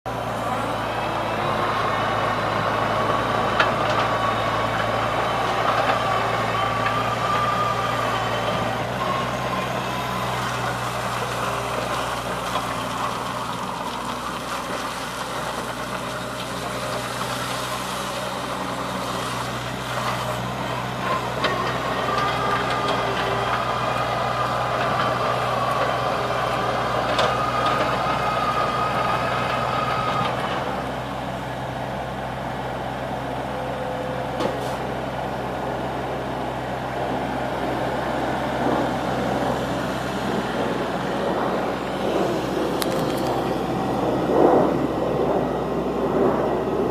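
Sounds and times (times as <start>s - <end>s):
excavator diesel engine running: 0.1s - 46.9s.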